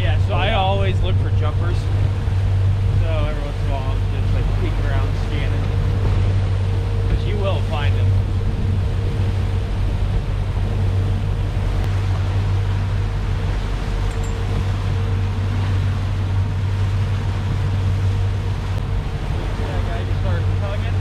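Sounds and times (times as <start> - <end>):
boat engine droning: 0.0 - 21.0
wake rushing: 0.0 - 21.0
wind: 0.0 - 21.0.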